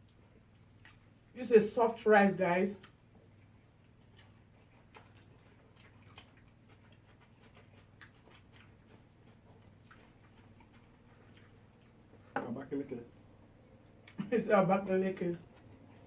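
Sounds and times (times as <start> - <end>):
quiet chewing: 0.0 - 1.4, 2.6 - 14.4, 15.3 - 16.0
low steady hum: 0.0 - 16.0.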